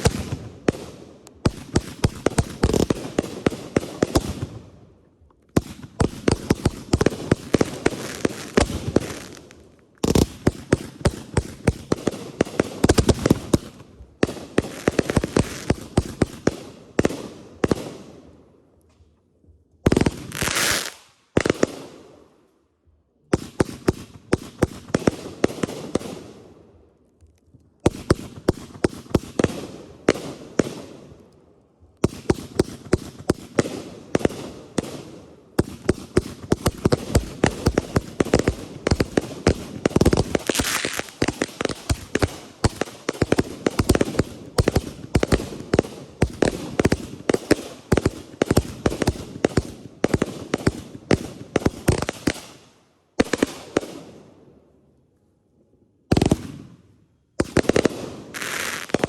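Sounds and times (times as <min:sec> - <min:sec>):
fireworks bangs and crackles: 0:00.0 - 0:18.4, 0:19.5 - 0:22.3, 0:23.3 - 0:26.8, 0:27.7 - 0:54.6, 0:56.0 - 0:59.0.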